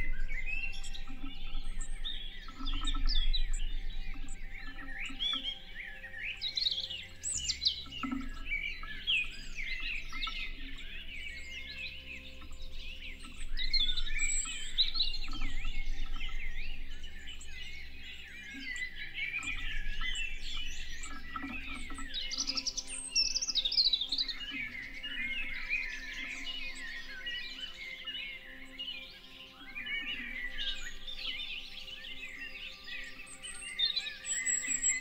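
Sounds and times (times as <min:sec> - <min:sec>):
songbirds chorus: 0:00.0 - 0:35.0.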